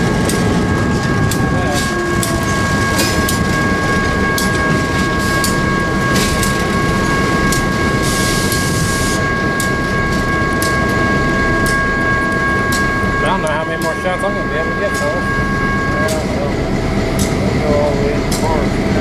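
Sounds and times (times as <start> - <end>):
train rumbling past: 0.0 - 19.0
wheels clicking over rail joints: 0.0 - 19.0
high-pitched tones: 0.1 - 19.0.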